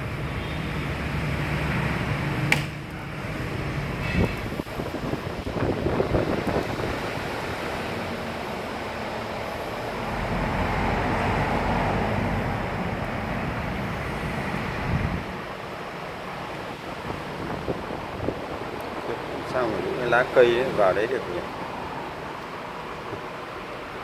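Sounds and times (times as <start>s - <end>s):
steady rushing noise: 4.5s - 24.0s.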